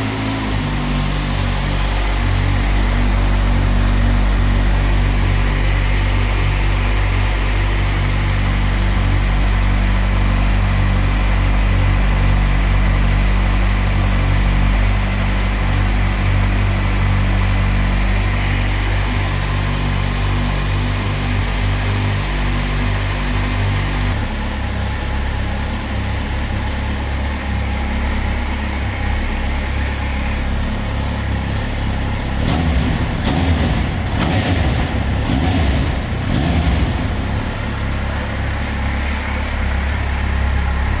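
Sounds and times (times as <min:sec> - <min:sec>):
motorcycle engine idling: 0:00.0 - 0:41.0.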